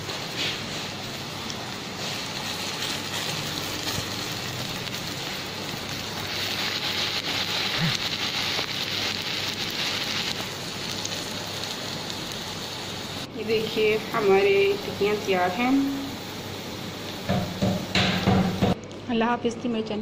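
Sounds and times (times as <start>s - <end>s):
patties sizzling in oil: 0.0s - 18.8s.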